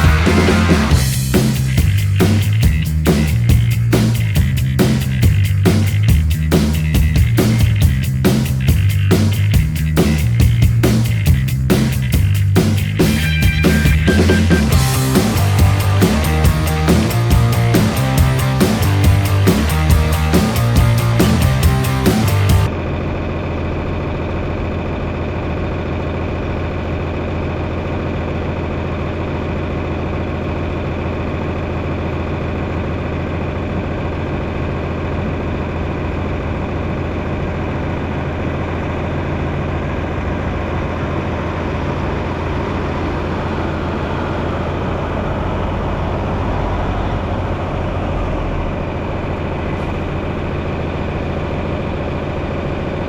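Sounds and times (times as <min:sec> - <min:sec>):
heavy engine humming: 0:00.0 - 0:53.0.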